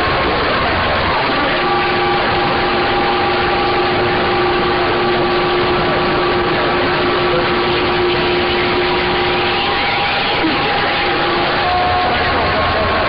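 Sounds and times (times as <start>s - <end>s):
radio static: 0.0s - 13.0s
whistling radio tones: 0.0s - 13.0s.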